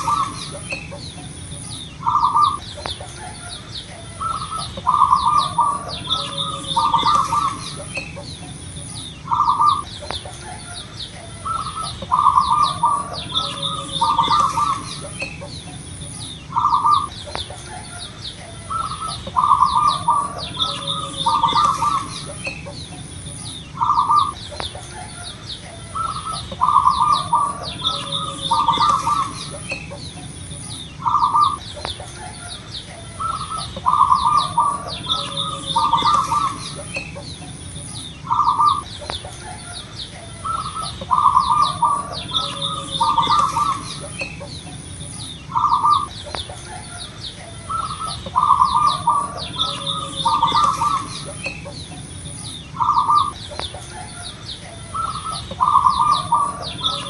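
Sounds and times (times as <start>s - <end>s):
dove cooing: 0.0s - 57.0s
faint high pulsing whine: 0.0s - 57.0s
small birds chirping: 0.0s - 57.0s.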